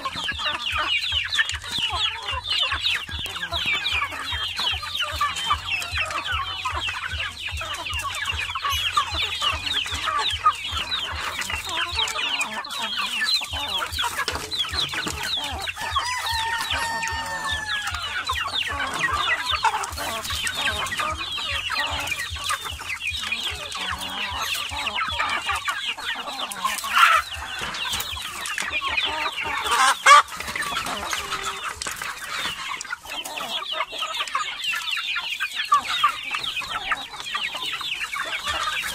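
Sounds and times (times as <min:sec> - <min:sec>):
chickens clucking: 0:00.0 - 0:38.9
drawn-out chicken call: 0:00.0 - 0:38.9.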